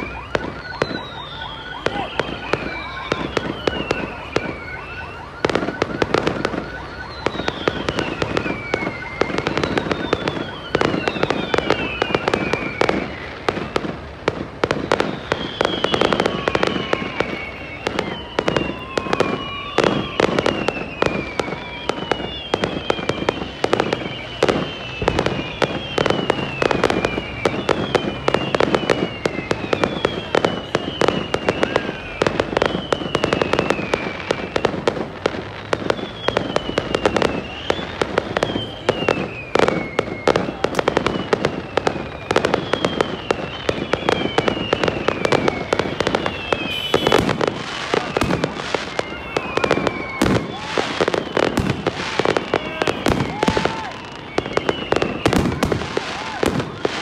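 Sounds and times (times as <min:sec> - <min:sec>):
falling whistle of fireworks: 0:00.0 - 0:57.0
fireworks bursting and crackling: 0:00.0 - 0:57.0.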